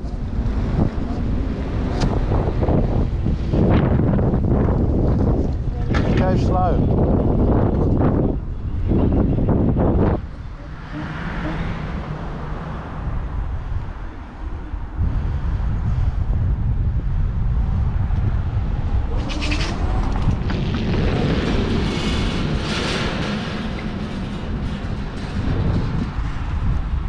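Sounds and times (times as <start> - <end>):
rushing noise: 0.0 - 27.0
scooter road rumble: 0.0 - 27.0
wind buffeting microphone: 0.0 - 27.0.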